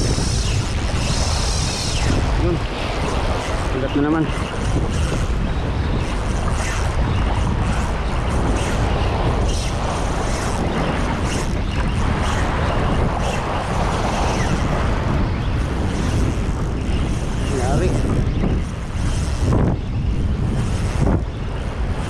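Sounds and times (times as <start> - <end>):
sea surf: 0.0 - 19.9
wind rumbling on microphone: 0.0 - 22.0.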